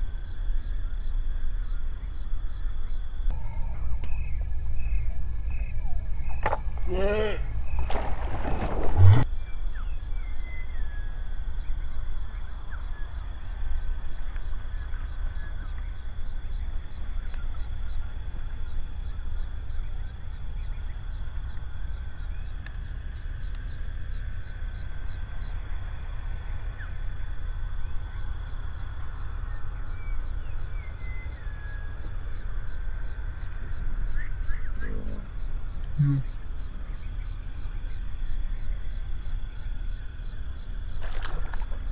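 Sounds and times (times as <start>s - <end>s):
low rumble: 0.0s - 40.9s
insect trill: 0.0s - 41.9s.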